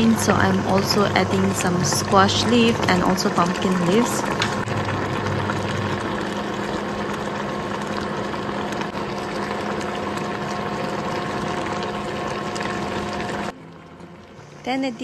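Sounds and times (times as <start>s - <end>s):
cooktop hum: 0.0s - 15.0s
stew boiling and bubbling: 0.0s - 15.0s.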